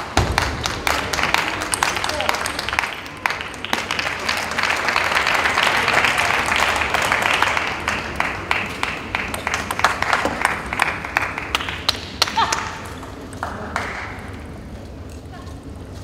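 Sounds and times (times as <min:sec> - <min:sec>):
spectators applauding: 0:00.0 - 0:14.4.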